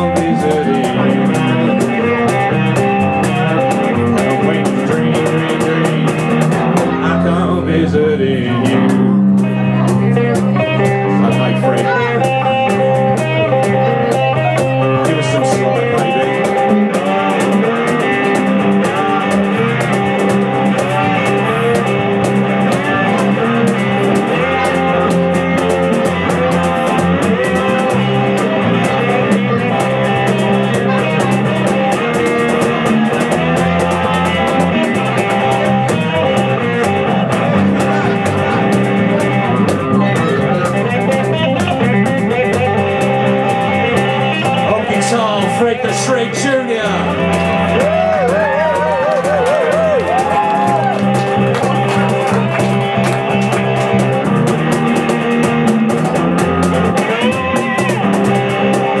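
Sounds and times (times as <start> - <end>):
percussion: 0.0 - 7.2, 8.6 - 59.0
bass line: 0.0 - 59.0
lead guitar: 0.0 - 59.0.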